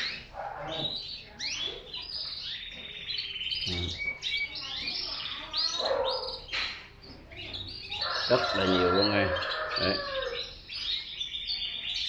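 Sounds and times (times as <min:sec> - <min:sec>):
canaries singing: 0:00.0 - 0:12.0.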